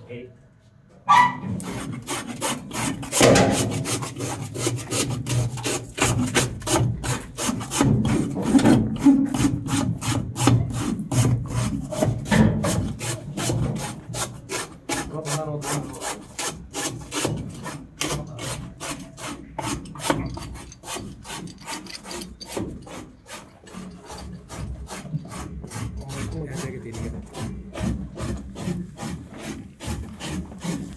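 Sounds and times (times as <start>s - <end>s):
blade sawing through horn: 1.5s - 30.9s.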